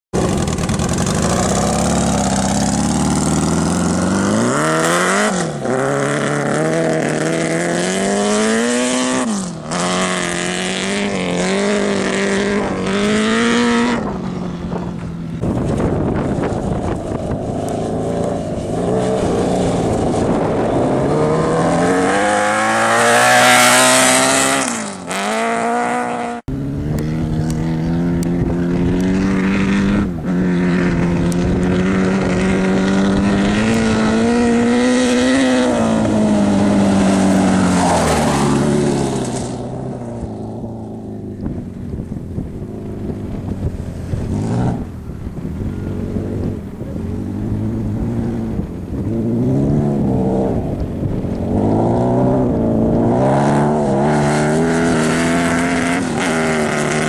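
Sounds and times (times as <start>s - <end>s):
motorcycle engine revving hard: 0.2s - 57.0s.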